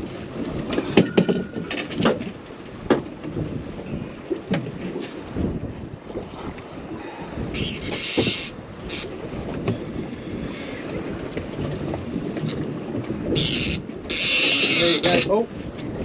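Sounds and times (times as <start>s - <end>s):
low rumble of water: 0.0s - 16.0s
wind buffeting microphone: 0.0s - 16.0s.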